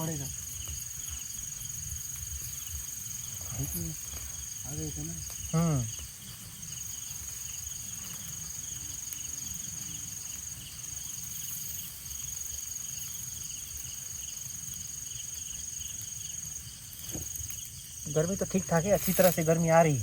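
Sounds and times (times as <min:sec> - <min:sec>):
insect high-pitched trill: 0:00.0 - 0:20.0
insect pulsing chirr: 0:00.0 - 0:20.0.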